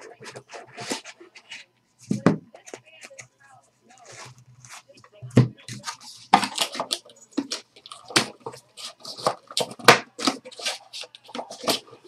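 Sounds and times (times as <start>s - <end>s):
handling cards and plastic holders: 0.0s - 12.0s.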